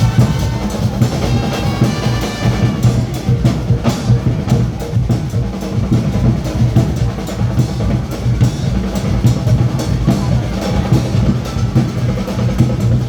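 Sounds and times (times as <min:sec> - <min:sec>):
carnival music with drumming: 0:00.0 - 0:13.0.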